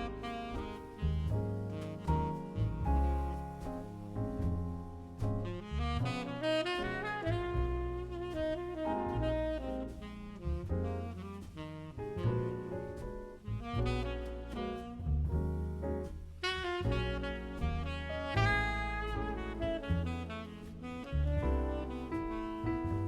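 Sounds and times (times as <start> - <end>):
saxophone melody: 0.0 - 4.2, 5.2 - 15.7, 16.4 - 23.0
bass line: 0.0 - 23.0.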